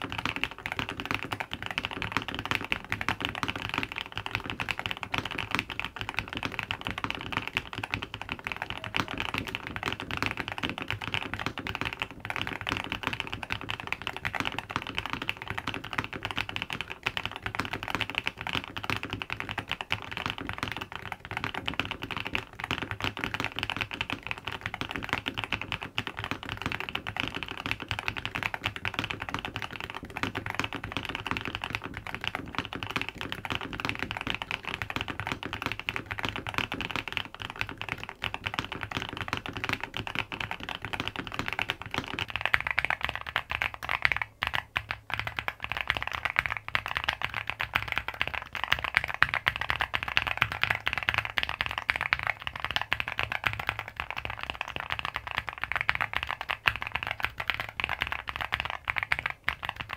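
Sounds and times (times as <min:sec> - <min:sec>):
fast mechanical keyboard typing: 0:00.0 - 0:59.9.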